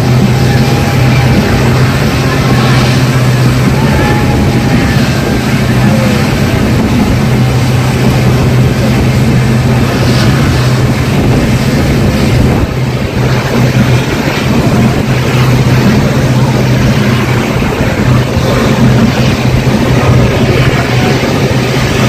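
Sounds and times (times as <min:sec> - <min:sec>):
constant low hum: 0:00.0 - 0:22.0
train coaches running on rails: 0:00.0 - 0:22.0.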